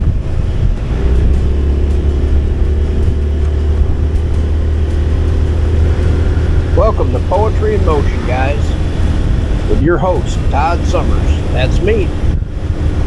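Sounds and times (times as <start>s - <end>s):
motorcycle engine running: 0.0s - 13.0s
wind rumble: 0.0s - 13.0s.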